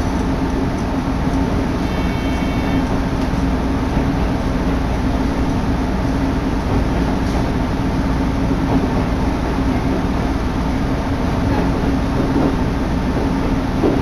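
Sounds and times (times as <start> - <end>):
diesel railcar running: 0.0 - 14.0
wind rushing at open window: 2.6 - 14.0.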